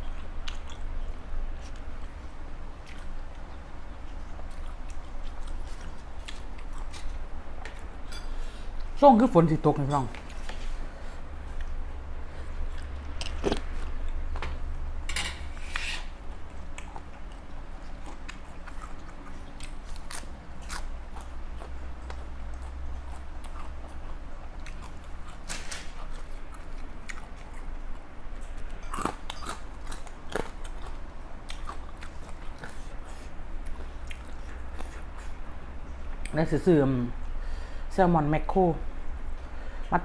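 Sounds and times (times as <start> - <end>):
person chewing crunchy food: 0.0 - 8.9, 10.3 - 14.4, 16.2 - 36.3
steady low hum: 0.0 - 40.0.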